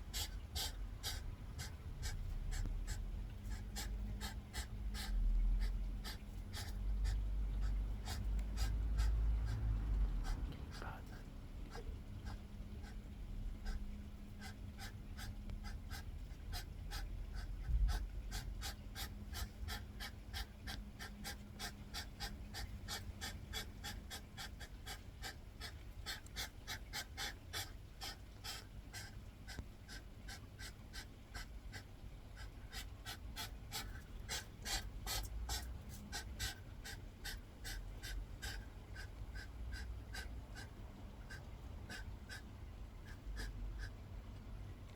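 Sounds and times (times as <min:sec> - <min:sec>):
hedgehogs huffing: 0:00.0 - 0:10.8, 0:11.7 - 0:44.0.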